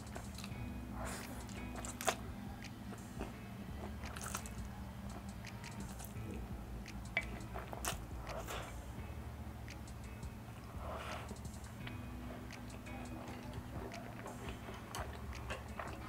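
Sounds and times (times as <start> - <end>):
person slurping and chewing noodles: 0.0 - 8.9, 10.6 - 11.7, 12.3 - 16.0
mouth clicks: 0.0 - 16.0.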